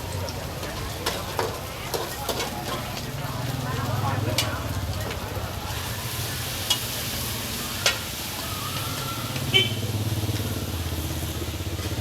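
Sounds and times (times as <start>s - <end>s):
food sizzling in oil: 0.3s - 12.0s.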